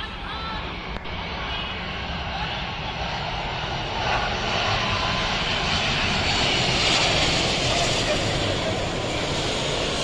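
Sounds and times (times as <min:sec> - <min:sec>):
jet engines of landing plane: 0:00.0 - 0:10.0.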